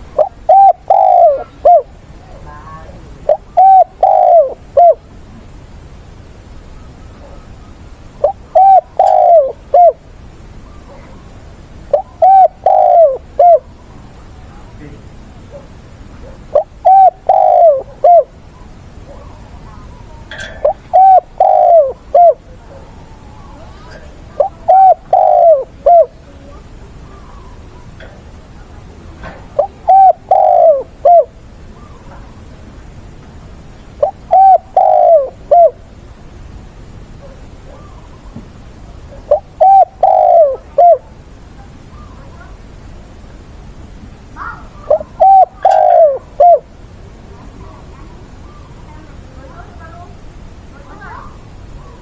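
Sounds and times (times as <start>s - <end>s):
dove cooing: 0.0s - 5.1s, 6.7s - 14.7s, 15.5s - 32.5s, 34.0s - 35.9s, 37.2s - 38.4s, 39.0s - 42.6s, 44.4s - 50.2s.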